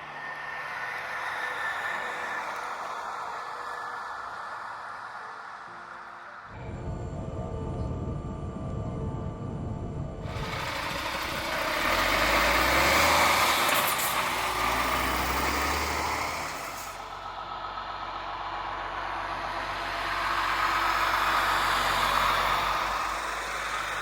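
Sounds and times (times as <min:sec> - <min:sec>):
truck tyres rolling hiss: 0:00.0 - 0:06.6, 0:10.2 - 0:24.0
truck engine rumble: 0:00.0 - 0:24.0.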